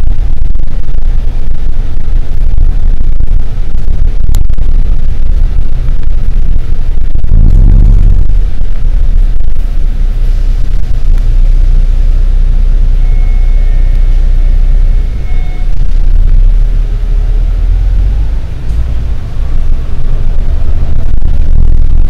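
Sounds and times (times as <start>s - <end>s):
bus engine rumble: 0.0s - 22.0s
faint high whine: 0.0s - 22.0s.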